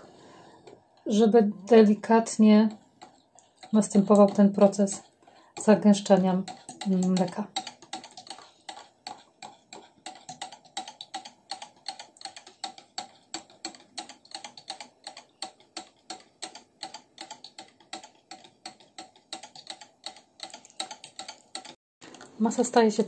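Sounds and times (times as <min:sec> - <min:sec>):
whisk clicking against glass: 0:02.7 - 0:21.8.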